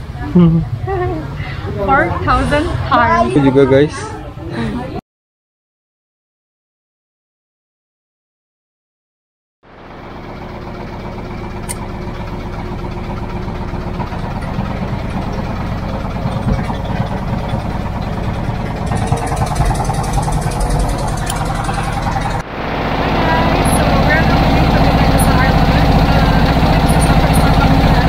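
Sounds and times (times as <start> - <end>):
boat engine running: 0.0 - 5.0, 9.6 - 28.0.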